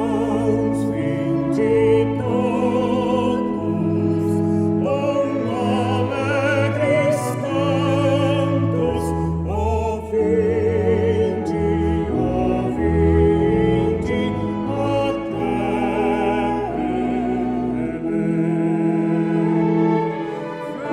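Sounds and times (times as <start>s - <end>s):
slow music with vibrato melody: 0.0s - 20.9s.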